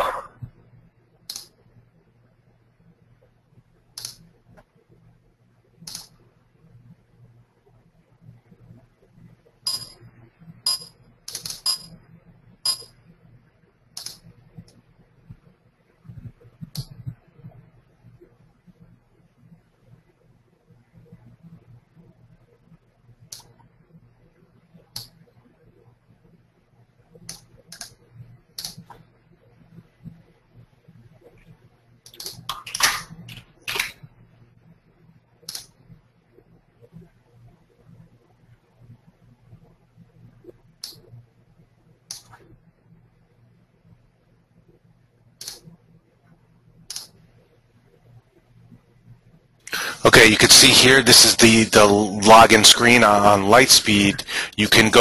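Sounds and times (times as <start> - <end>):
faint low hum: 0.0 - 55.0.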